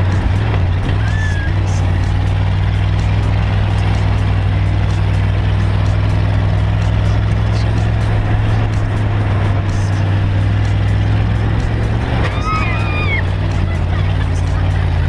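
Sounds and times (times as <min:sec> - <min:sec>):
dune buggy engine drone: 0:00.0 - 0:15.0.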